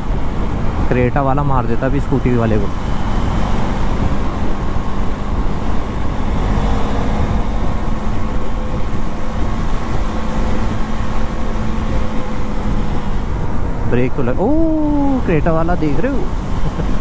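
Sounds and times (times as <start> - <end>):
road noise: 0.0 - 17.0
rushing wind: 0.0 - 17.0.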